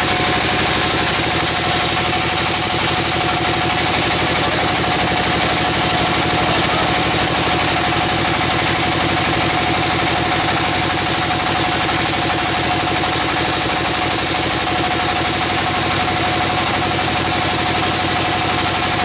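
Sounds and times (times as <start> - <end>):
engine chugging: 0.0 - 19.0
high saw whine: 0.0 - 19.0.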